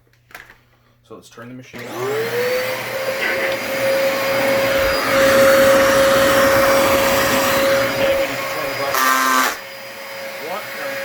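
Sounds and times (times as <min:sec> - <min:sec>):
vacuum cleaner whining: 0:01.8 - 0:11.0.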